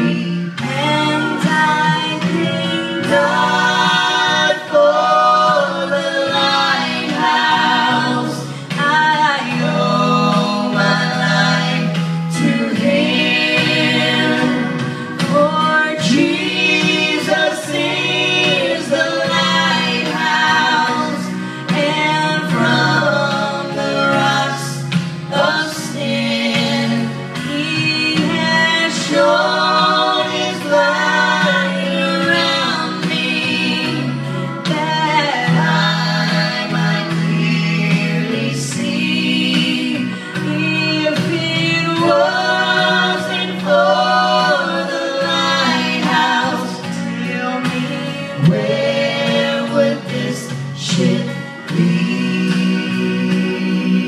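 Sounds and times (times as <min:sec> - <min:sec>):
instrumental backing: 0:00.0 - 0:54.0
vocal trio singing in harmony: 0:00.0 - 0:54.0.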